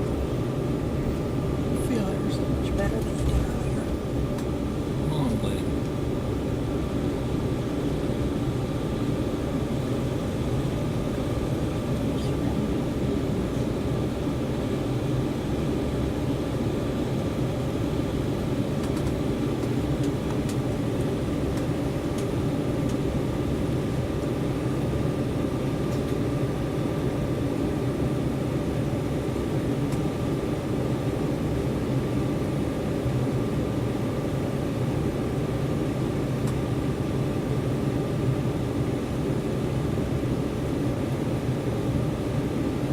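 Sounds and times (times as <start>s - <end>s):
airliner cabin engine hum: 0.0s - 42.9s.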